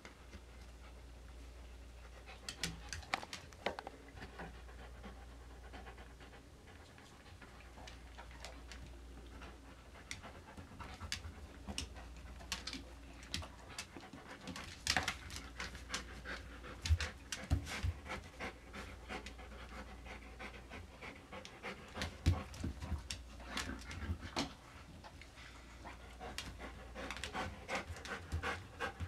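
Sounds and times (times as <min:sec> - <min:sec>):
dog panting: 0:04.2 - 0:08.6, 0:09.3 - 0:29.0.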